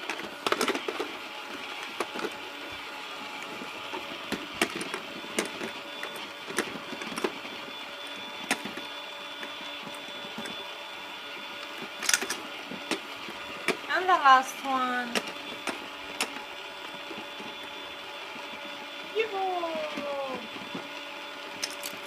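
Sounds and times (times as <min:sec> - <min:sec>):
toy motor whirring: 0:00.0 - 0:10.7, 0:11.3 - 0:22.0.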